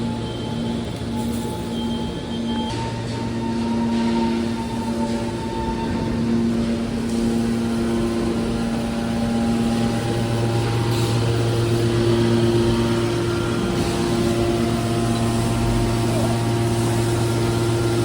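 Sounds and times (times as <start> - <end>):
hydraulic baler motor and pump hum: 0.0 - 18.0.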